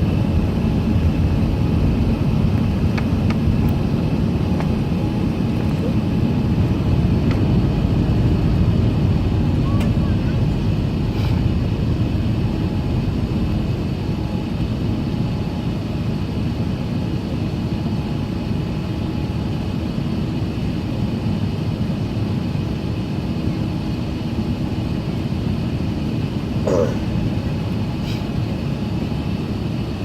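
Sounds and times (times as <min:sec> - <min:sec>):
airplane cabin engine rumble: 0:00.0 - 0:30.0.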